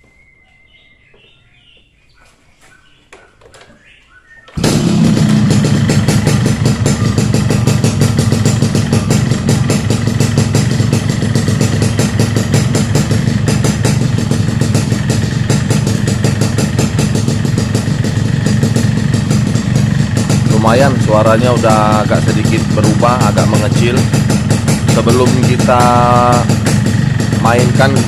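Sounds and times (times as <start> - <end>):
two-stroke engine idling: 4.5 - 28.0.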